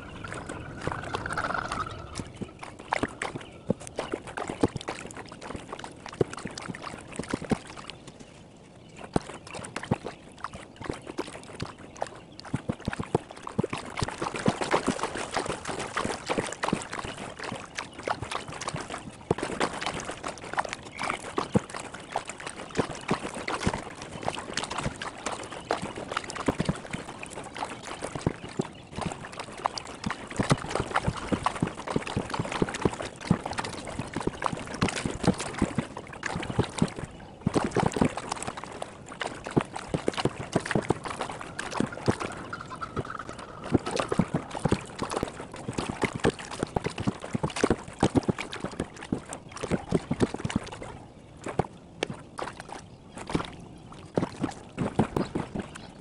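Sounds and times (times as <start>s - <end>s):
paddle splashing water: 0.0s - 8.4s, 9.1s - 56.0s.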